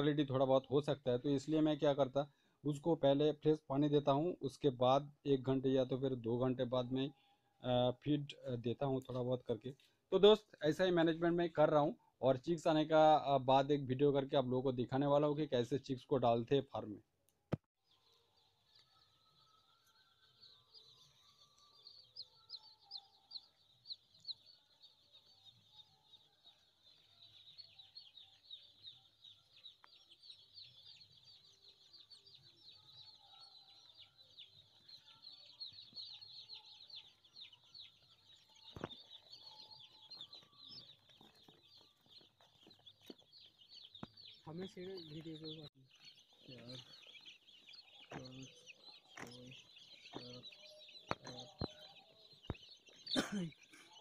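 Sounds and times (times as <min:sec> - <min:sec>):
chicks peeping: 0:00.0 - 0:16.9, 0:17.9 - 0:54.0.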